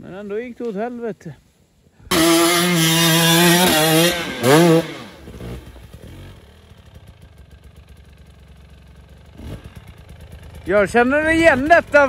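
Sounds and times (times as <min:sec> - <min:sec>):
motorcycle engine revving: 0:02.1 - 0:12.0.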